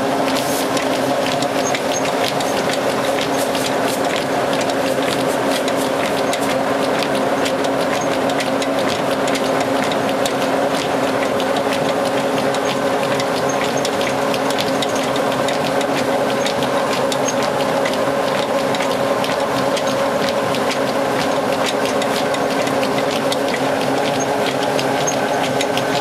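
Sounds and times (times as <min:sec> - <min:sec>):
drive belts rattling and ticking: 0:00.0 - 0:26.0
mill mechanical hum: 0:00.0 - 0:26.0.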